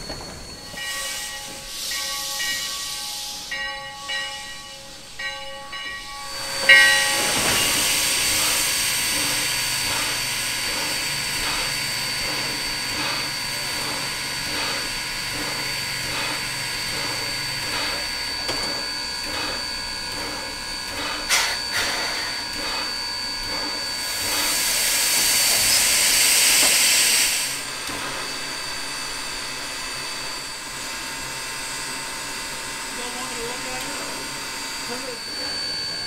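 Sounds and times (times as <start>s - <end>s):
loud hiss of escaping steam: 0.0s - 36.0s
steam locomotive hissing and puffing: 0.0s - 36.0s.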